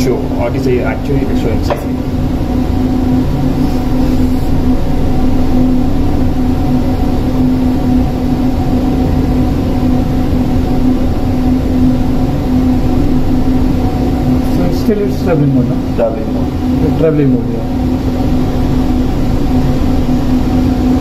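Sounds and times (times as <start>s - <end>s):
ship machinery hum: 0.0s - 21.0s.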